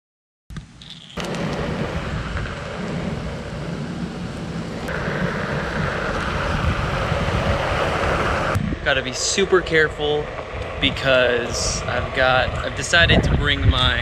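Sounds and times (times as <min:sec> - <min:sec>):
tyre rolling on pavement: 0:01.1 - 0:14.0
wind buffeting microphone: 0:01.2 - 0:14.0.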